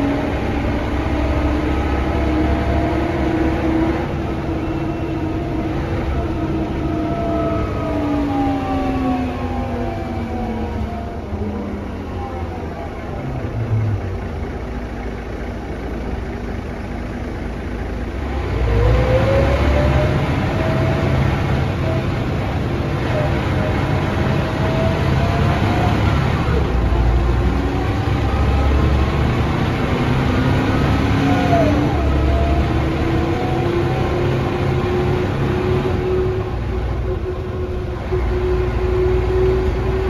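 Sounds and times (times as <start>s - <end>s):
bus drivetrain noise: 0.0s - 40.0s.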